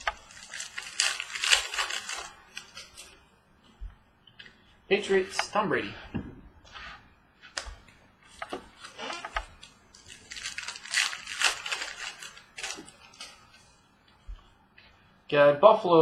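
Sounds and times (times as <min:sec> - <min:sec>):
trading cards rustling and flipping: 0:00.0 - 0:05.6, 0:06.7 - 0:14.5.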